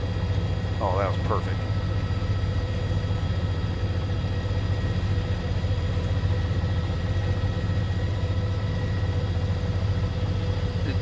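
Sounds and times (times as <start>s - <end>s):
helicopter engine and rotors droning: 0.0s - 11.0s
steady whine: 0.0s - 11.0s.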